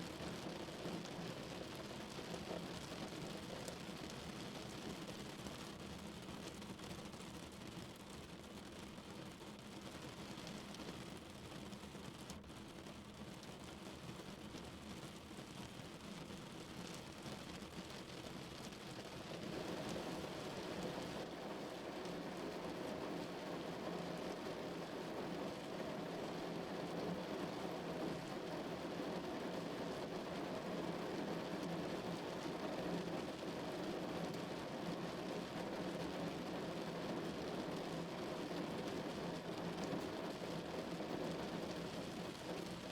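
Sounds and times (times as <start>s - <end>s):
rain on car roof: 0.1s - 42.9s.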